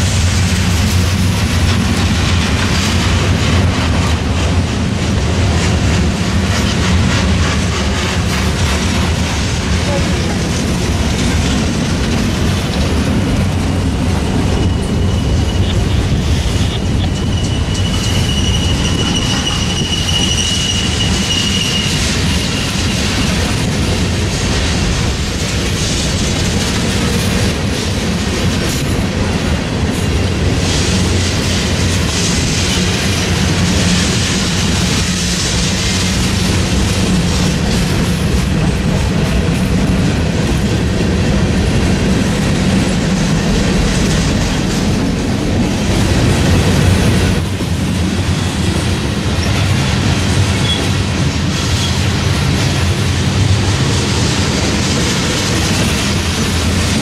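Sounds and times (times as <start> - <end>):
train wheels on rail: 0.0 - 57.0.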